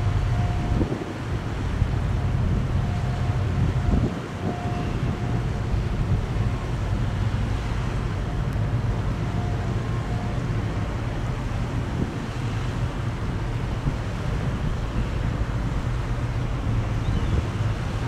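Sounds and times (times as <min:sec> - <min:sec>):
ship diesel engine drone: 0:00.0 - 0:18.0
wind rumbling on microphone: 0:00.0 - 0:18.0.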